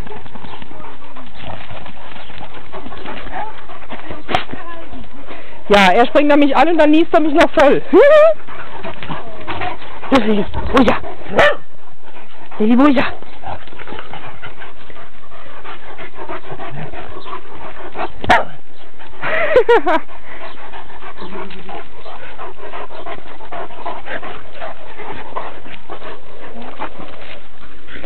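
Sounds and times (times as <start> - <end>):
dogs panting and scuffling: 0.0 - 28.0.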